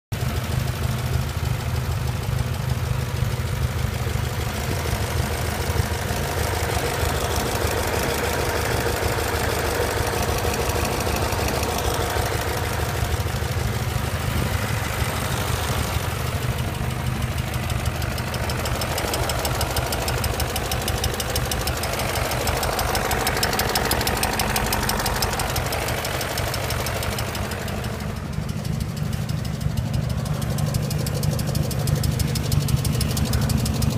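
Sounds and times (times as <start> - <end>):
engine running with fast knock: 0.2 - 33.9.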